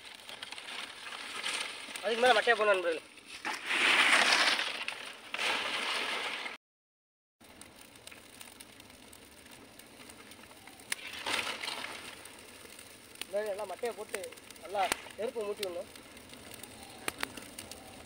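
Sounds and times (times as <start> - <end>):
dry palm fronds rustling: 0.0 - 6.6, 7.4 - 18.0
fire crackling: 0.0 - 6.6, 7.4 - 18.0.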